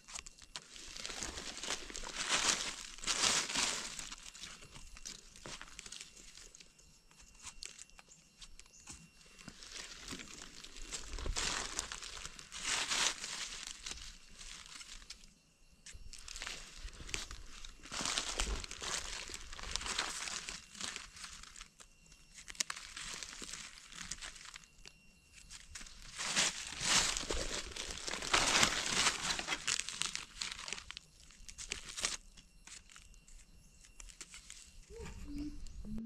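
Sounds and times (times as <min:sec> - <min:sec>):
dry leaves crackling and rustling: 0:00.0 - 0:35.0.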